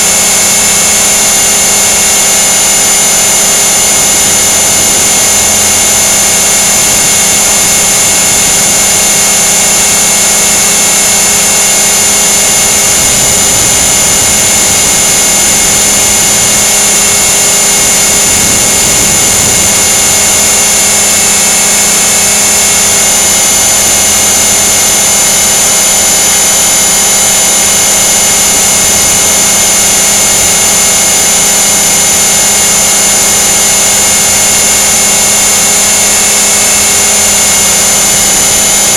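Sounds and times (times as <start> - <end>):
model helicopter whine: 0.0 - 38.9.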